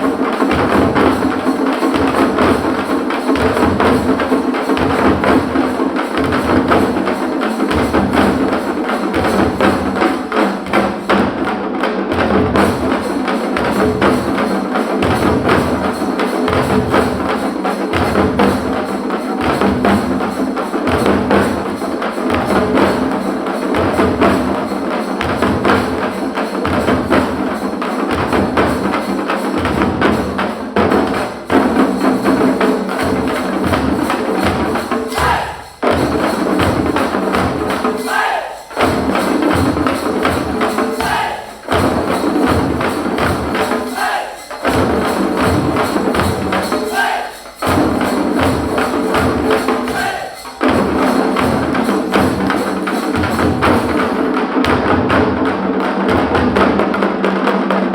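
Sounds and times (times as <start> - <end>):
frame drums beaten with sticks: 0.0 - 57.9.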